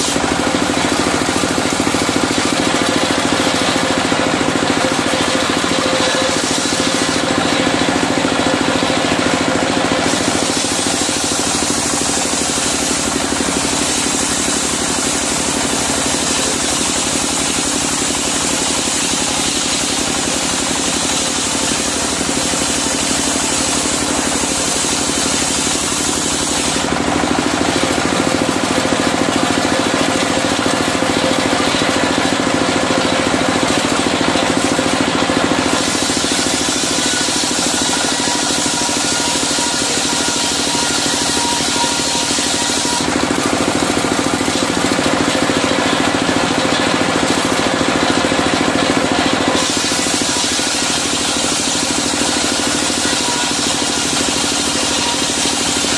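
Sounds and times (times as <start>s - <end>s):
diesel engine running: 0.0s - 55.9s
saw blade cutting wood: 0.0s - 55.9s.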